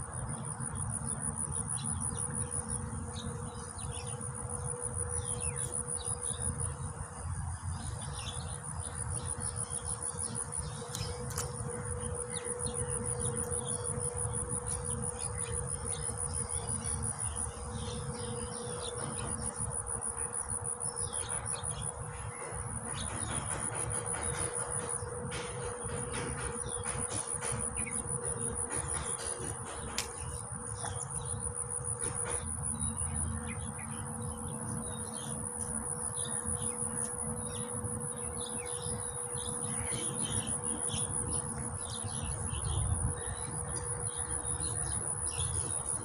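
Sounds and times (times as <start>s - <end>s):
insects trilling: 0.0s - 46.0s
steady low hum: 0.0s - 46.0s.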